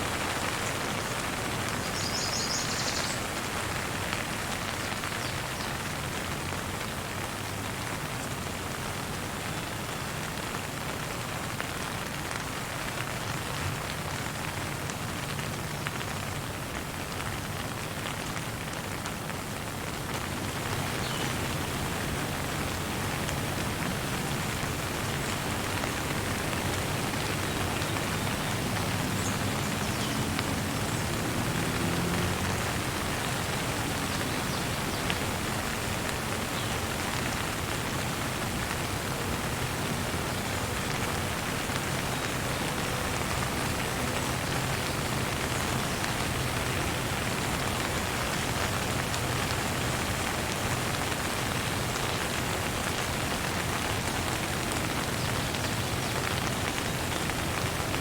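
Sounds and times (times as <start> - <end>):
steady rain pattering: 0.0 - 58.0.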